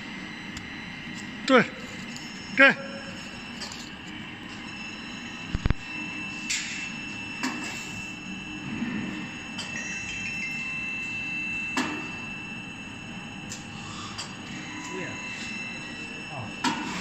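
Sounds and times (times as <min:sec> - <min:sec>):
high whine of machine drive: 0:00.0 - 0:17.0.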